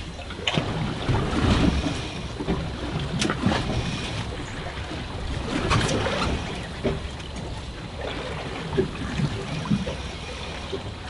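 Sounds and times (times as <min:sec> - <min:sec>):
water slapping against boat hull: 0:00.0 - 0:11.0.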